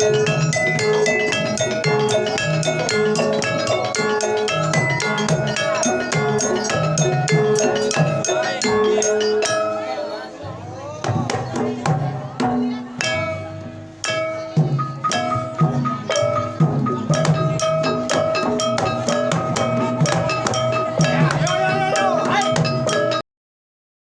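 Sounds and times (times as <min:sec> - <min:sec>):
hand drum strikes: 0:00.0 - 0:09.9, 0:11.0 - 0:23.2
ringing bell-like metal tones: 0:00.0 - 0:10.5, 0:13.0 - 0:23.2.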